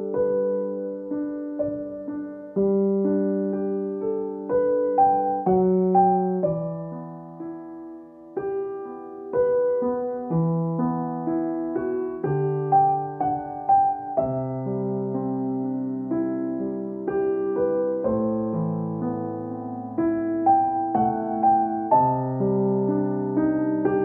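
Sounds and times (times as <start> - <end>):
slow solo piano music: 0.0 - 24.0.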